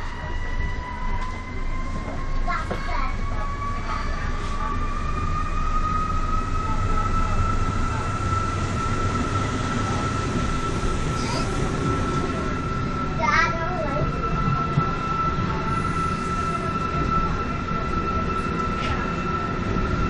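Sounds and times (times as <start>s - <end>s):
rising train whine: 0.0s - 20.0s
train wheels rumbling on track: 0.0s - 20.0s.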